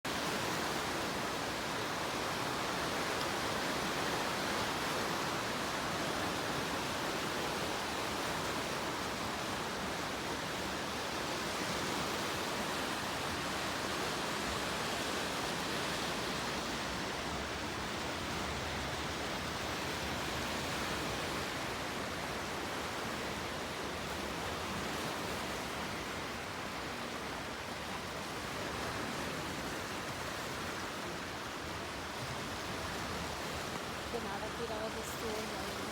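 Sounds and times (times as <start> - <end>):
waves washing on shore: 0.1 - 35.9.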